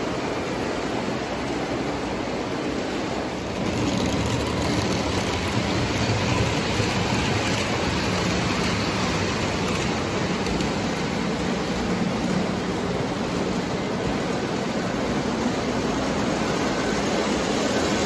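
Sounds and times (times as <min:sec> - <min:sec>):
model train rolling on track: 0:00.0 - 0:18.0.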